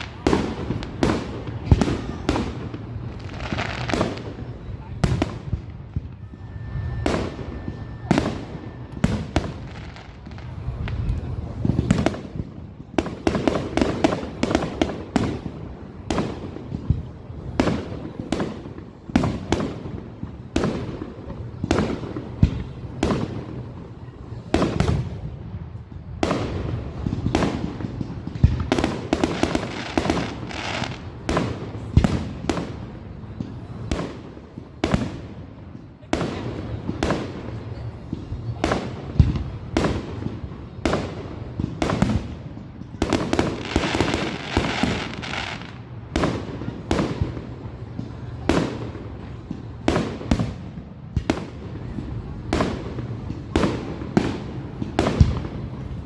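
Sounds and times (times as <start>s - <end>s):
fireworks bursts and bangs: 0.0s - 56.0s.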